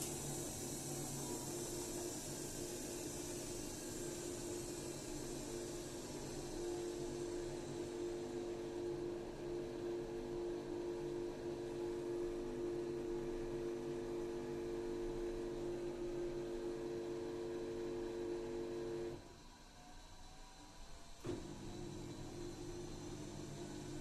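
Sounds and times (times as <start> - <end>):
electrical appliance hum: 0.0 - 19.3, 21.2 - 24.0.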